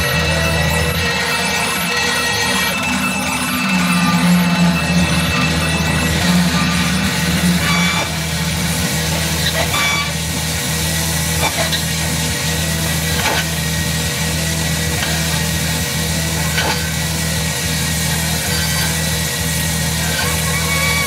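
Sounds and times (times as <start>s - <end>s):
pulsing low drone: 0.0s - 21.0s.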